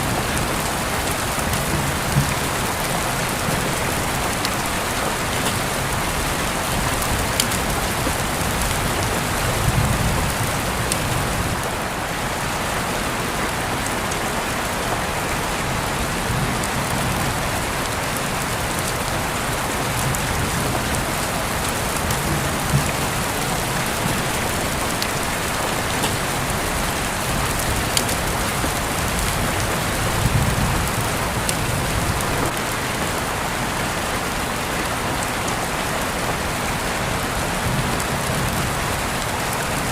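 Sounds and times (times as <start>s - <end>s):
rain drops ticking: 0.0s - 39.9s
steady rain hiss: 0.0s - 39.9s.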